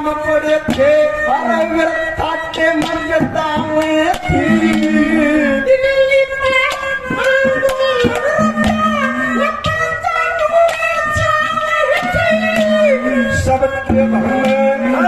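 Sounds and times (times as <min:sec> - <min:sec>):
man singing over loudspeakers: 0:00.0 - 0:15.0
musical backing: 0:00.0 - 0:15.0
sharp regular beats: 0:00.6 - 0:15.0.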